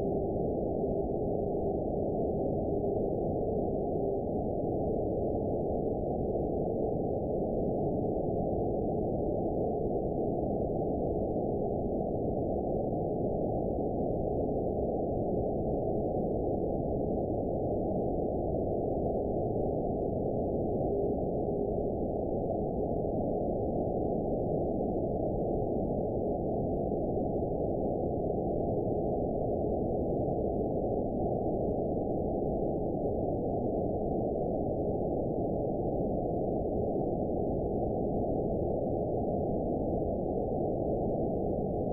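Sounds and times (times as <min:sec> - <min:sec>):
faint steady tone: 0:00.0 - 0:41.9.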